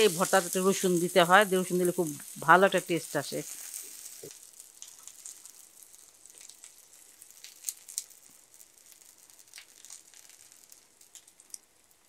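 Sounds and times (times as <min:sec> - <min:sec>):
garlic sizzling in oil: 0:00.0 - 0:12.0
sharp crackles of frying: 0:00.0 - 0:12.0.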